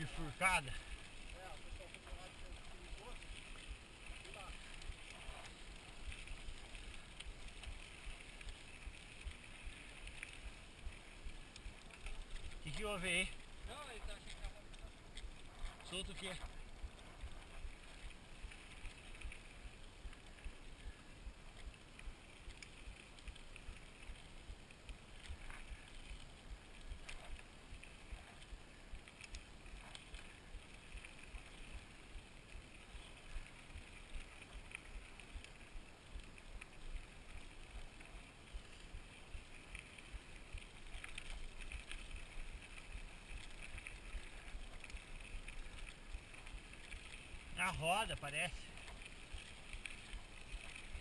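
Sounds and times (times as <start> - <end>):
bike tyres and drivetrain hiss: 0.0 - 51.0
faint clicks and rattles: 0.0 - 51.0.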